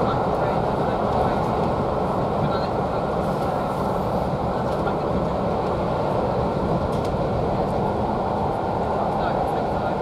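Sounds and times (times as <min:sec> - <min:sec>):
railway carriage running noise: 0:00.0 - 0:10.0.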